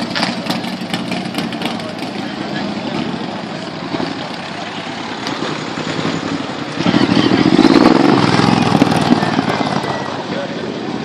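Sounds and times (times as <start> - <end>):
motorcycle engine riding up close: 0.0 - 11.0
vehicles pulling away: 0.0 - 11.0.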